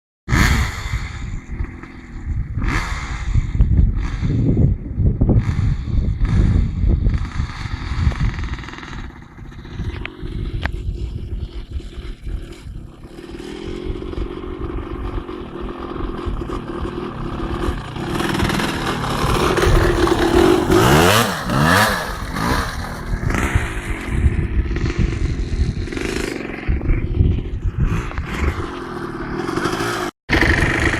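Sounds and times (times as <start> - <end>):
two-stroke motocross bike engine revving: 0.3 - 30.9.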